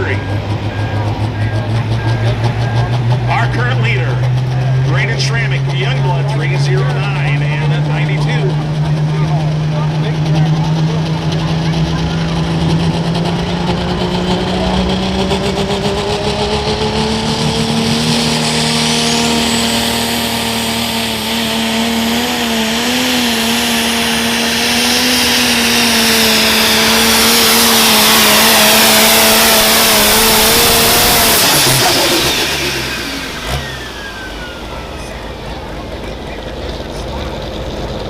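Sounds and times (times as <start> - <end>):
diesel engine running under load: 0.0 - 38.0
high turbo whine: 0.0 - 38.0.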